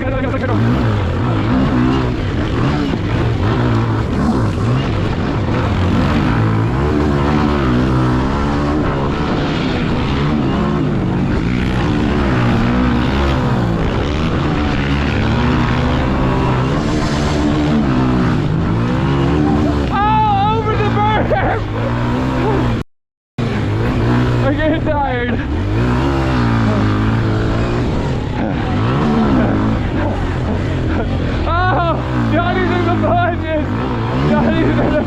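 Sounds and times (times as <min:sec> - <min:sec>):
pit bike engine revving: 0:00.0 - 0:22.8, 0:23.4 - 0:35.0.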